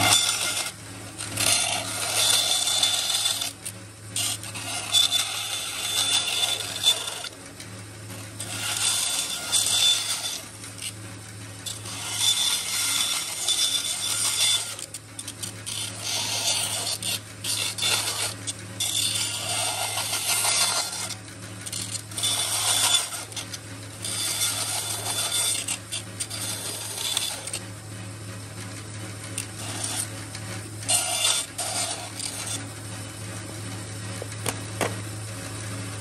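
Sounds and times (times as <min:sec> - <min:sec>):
bandsaw cutting plastic: 0:00.0 - 0:35.1
bandsaw motor hum: 0:00.0 - 0:36.0.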